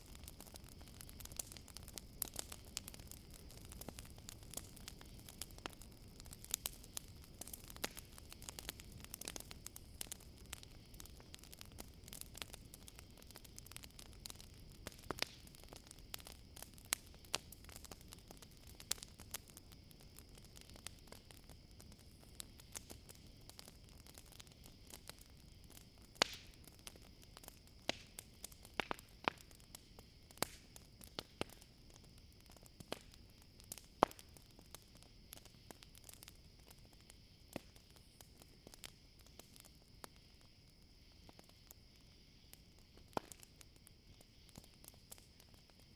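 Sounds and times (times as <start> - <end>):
campfire crackling and popping: 0.0 - 45.9
crickets trilling: 0.0 - 45.9.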